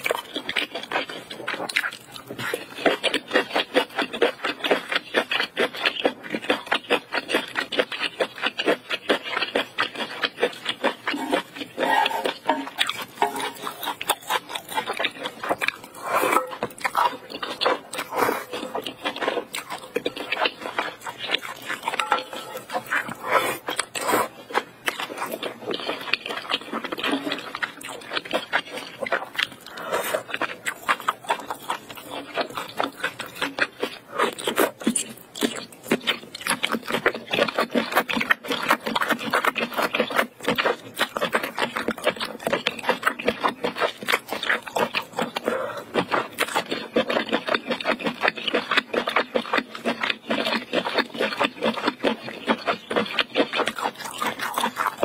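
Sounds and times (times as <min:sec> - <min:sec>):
wet chewing and slurping: 0:00.0 - 0:55.0.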